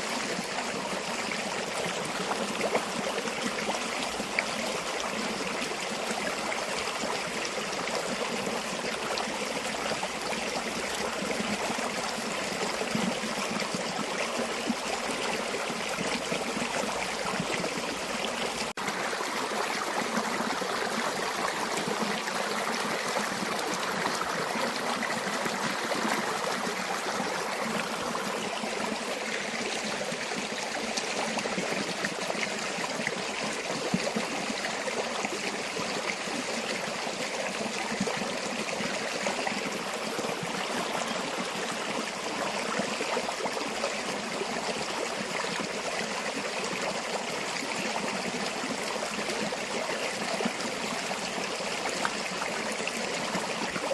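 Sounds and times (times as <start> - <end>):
stream flowing and babbling: 0.0 - 53.9.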